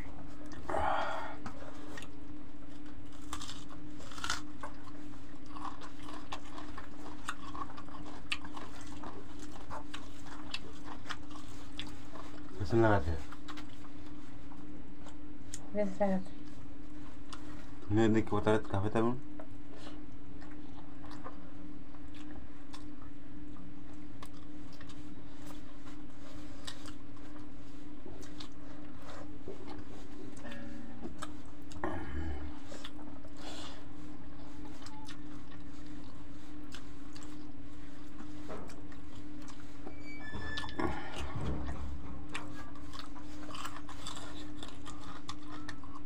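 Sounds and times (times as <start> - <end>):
chewing: 0.0 - 15.7, 16.3 - 46.0
steady low hum: 0.0 - 46.0.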